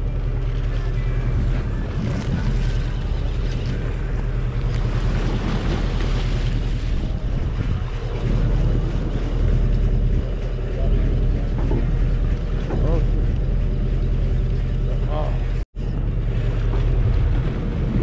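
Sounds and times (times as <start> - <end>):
boat engine humming: 0.0 - 18.0
waves washing along hull: 0.0 - 18.0
wind buffeting microphone: 1.2 - 14.2, 15.8 - 18.0.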